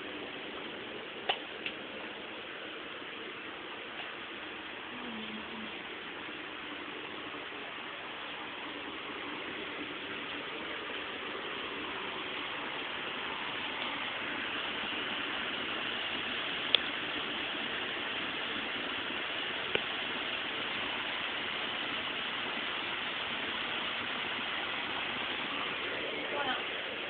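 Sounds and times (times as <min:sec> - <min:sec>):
rushing hiss: 0:00.0 - 0:27.0.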